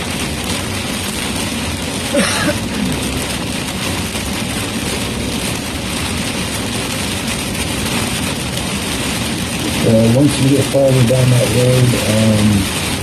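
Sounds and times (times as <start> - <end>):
heavy rain on vehicle: 0.0 - 13.0
road noise: 0.0 - 13.0
vehicle engine: 2.1 - 13.0.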